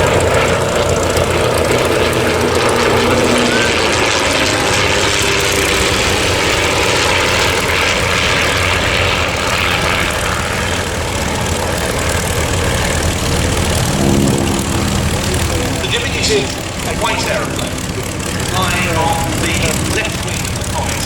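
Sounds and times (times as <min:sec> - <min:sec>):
propeller aircraft engines droning: 0:00.0 - 0:21.0.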